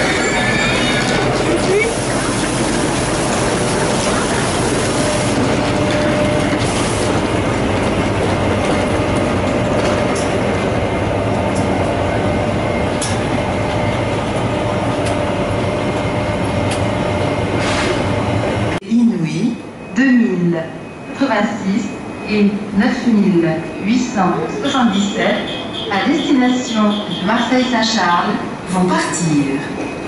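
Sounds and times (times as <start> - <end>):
train hum and whir: 0.0 - 30.0.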